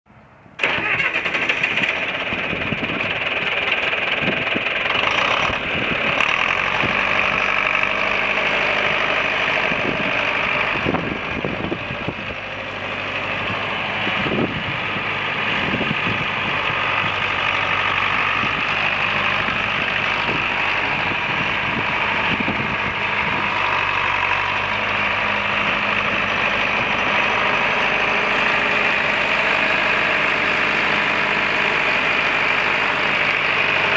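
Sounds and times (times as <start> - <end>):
tractor engine running: 0.4 - 33.9.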